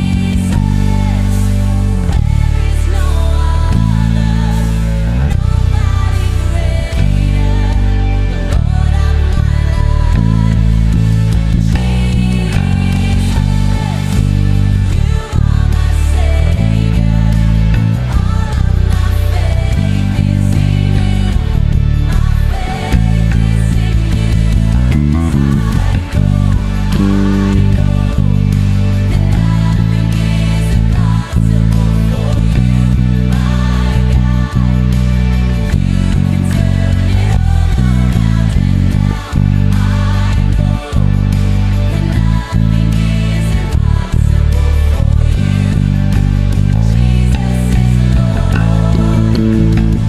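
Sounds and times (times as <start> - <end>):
electric bass guitar: 0.0 - 50.0
rock band music: 0.0 - 50.0.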